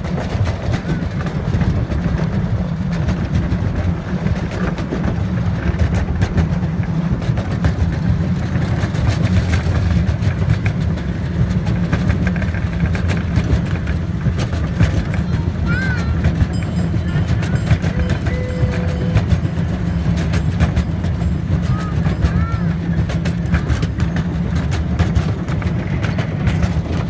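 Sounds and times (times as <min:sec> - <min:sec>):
miniature train rumbling: 0:00.0 - 0:27.0
wheels clicking and clattering: 0:00.0 - 0:27.0.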